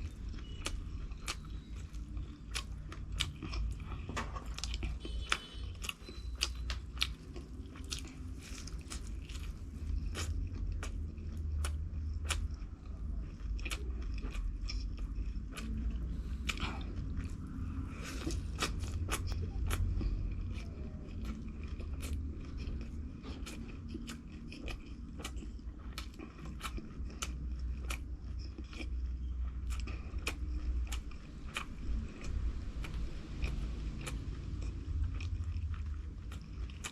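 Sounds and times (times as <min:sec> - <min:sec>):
crunching of crisp fried food: 0:00.0 - 0:36.9.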